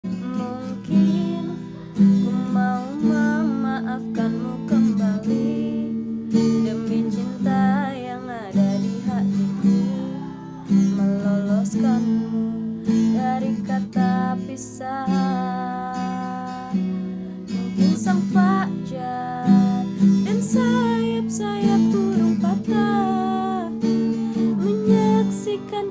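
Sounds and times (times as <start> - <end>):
acoustic guitar strumming chords: 0.0 - 25.9.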